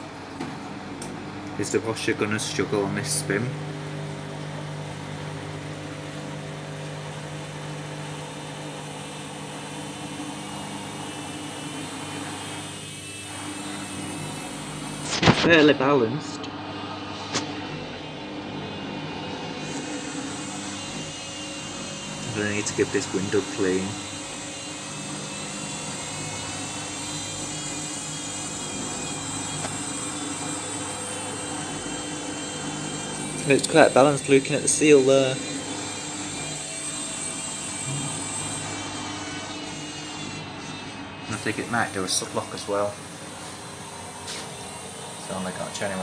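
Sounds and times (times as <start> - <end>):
washing machine spinning: 0.0 - 46.0.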